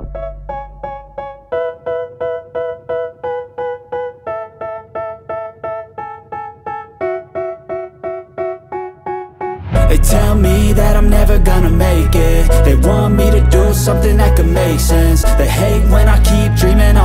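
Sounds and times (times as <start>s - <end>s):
electric piano chords: 0.0s - 17.0s.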